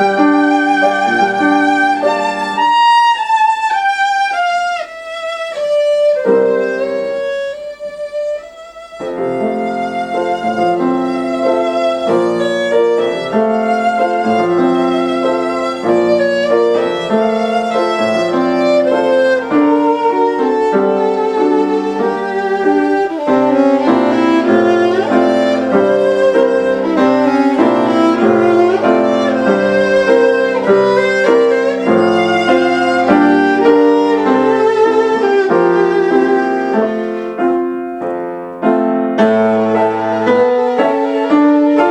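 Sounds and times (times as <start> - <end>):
piano accompaniment: 0.0 - 41.9
violin melody with vibrato: 0.0 - 41.9.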